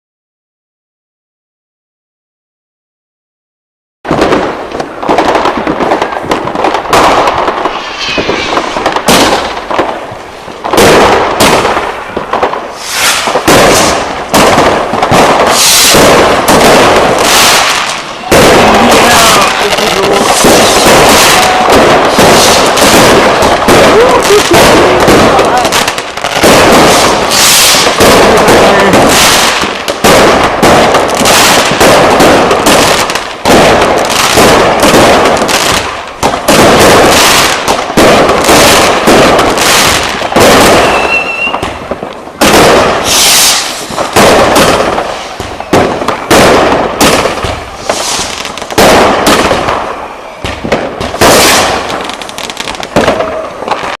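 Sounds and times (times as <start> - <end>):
crackling fireworks bursting: 4.1 - 54.0.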